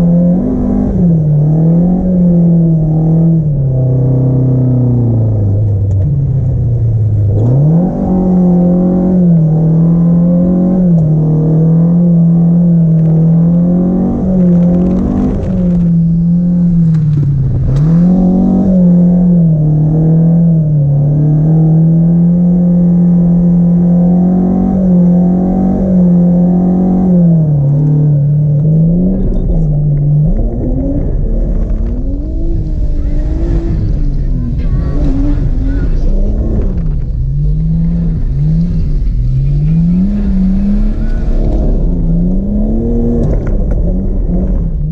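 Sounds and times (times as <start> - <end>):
car engine revving high: 0.0 - 44.9.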